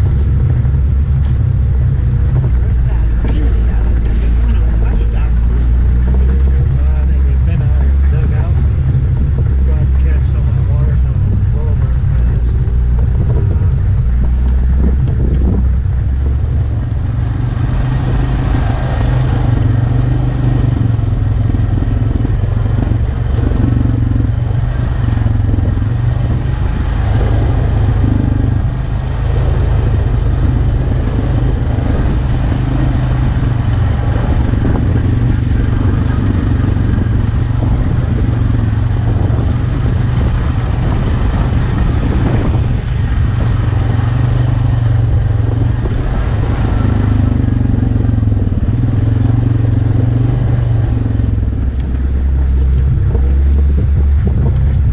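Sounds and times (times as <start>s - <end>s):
atv engine running: 0.0s - 54.9s
tyres and rattling on rocky track: 0.0s - 54.9s.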